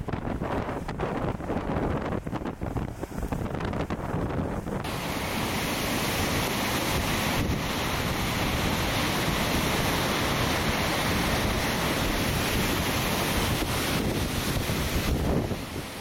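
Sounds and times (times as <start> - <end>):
wind buffeting microphone: 0.0 - 16.0
waves breaking on rocky shore: 0.2 - 16.0.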